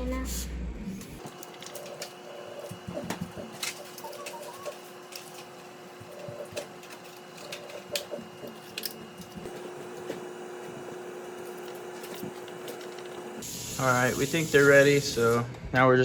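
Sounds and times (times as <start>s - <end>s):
steady hum: 0.0s - 14.6s.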